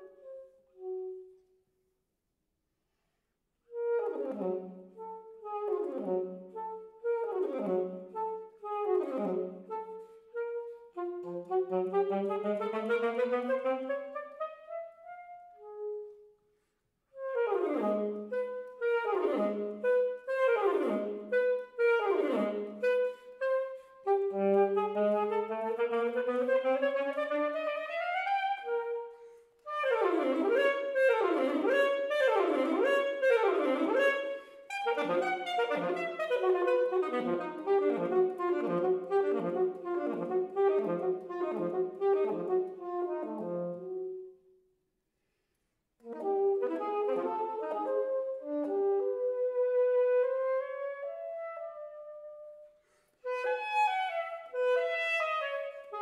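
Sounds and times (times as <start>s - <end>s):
alto saxophone solo: 0.0s - 1.6s, 3.6s - 44.6s, 46.0s - 56.0s.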